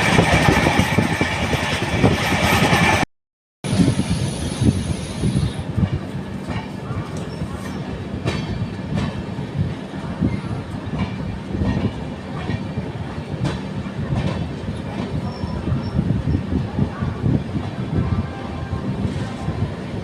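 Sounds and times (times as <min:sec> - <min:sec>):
train coaches rumbling: 0:00.0 - 0:03.1, 0:03.7 - 0:20.0.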